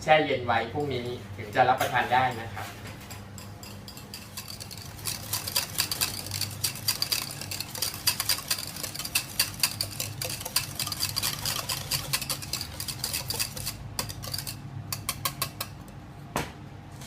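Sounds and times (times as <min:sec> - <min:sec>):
utensil clinking in mixing bowl: 0:01.5 - 0:15.9.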